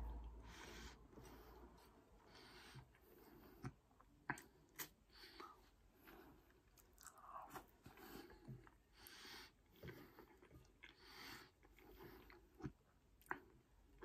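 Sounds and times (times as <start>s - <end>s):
person chewing food: 1.1s - 14.0s.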